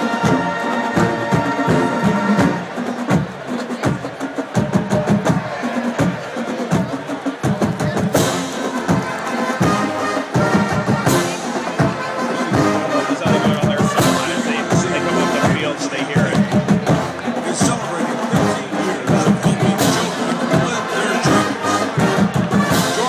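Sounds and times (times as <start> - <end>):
held brass notes: 0.0 - 7.2, 8.0 - 23.0
marching drums and percussion: 0.0 - 23.0.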